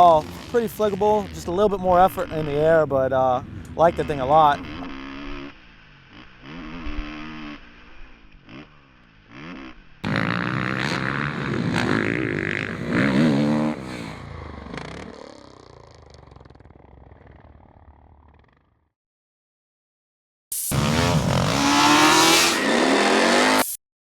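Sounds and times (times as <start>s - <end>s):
motorcycle engine revving: 0.0s - 18.8s, 20.5s - 23.8s.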